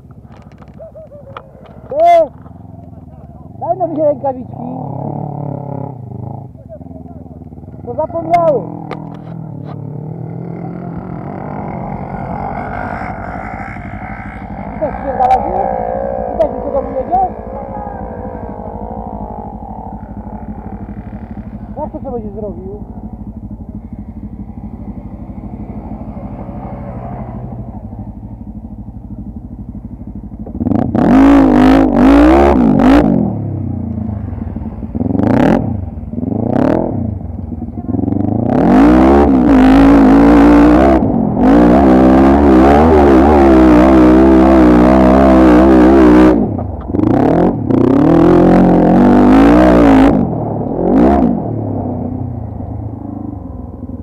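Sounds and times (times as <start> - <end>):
quad bike engine idling and revving: 0.0 - 54.0.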